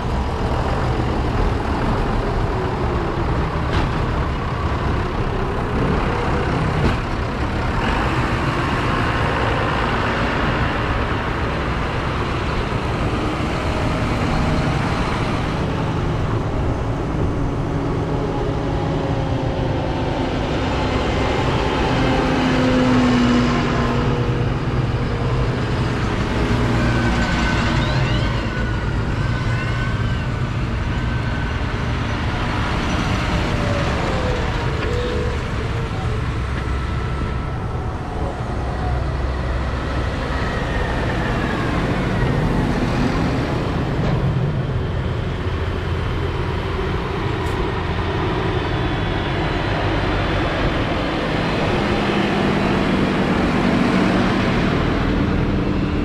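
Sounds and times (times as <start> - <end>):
diesel tractors driving past: 0.0 - 56.0.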